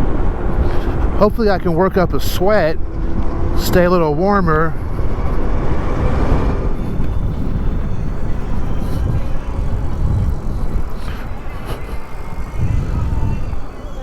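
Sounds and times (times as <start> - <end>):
road noise: 0.0 - 14.0
wind rumble: 0.0 - 14.0.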